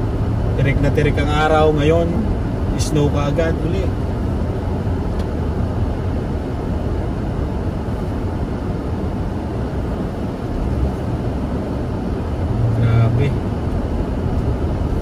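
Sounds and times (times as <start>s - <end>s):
engine and tyre rumble: 0.0s - 15.0s
heater fan blowing: 0.0s - 15.0s.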